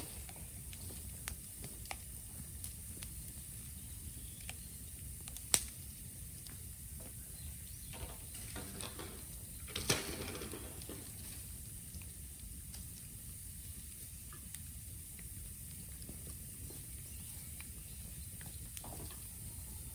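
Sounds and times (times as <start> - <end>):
bamboo bonfire crackling: 0.0 - 8.6, 9.2 - 19.9.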